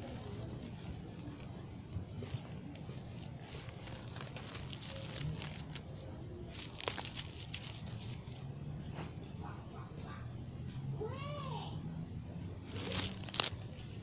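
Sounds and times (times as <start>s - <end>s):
rustling and crackling: 0.0s - 10.9s, 12.5s - 14.0s
steady low hum: 0.0s - 14.0s.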